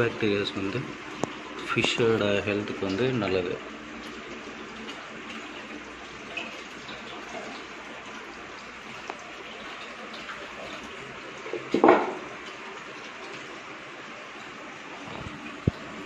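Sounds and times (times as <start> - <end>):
water trickling through filter: 0.0 - 16.0.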